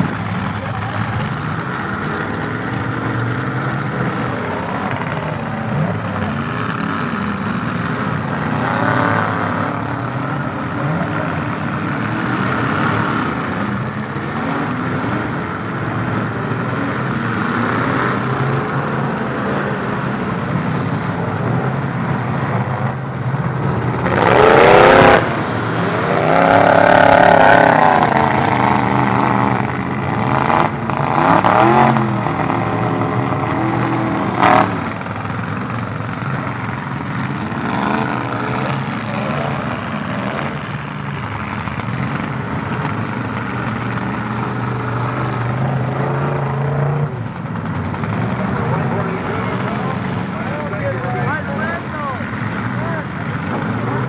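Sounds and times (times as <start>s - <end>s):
truck engines revving hard: 0.0s - 54.0s.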